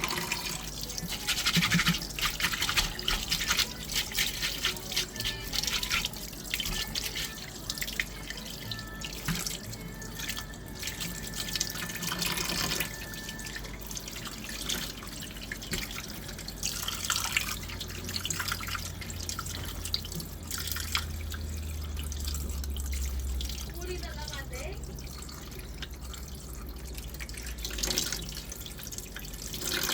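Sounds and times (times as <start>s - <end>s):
tap water splashing into sink: 0.0s - 13.6s, 14.2s - 23.8s, 24.8s - 29.9s
water drips: 0.0s - 29.9s.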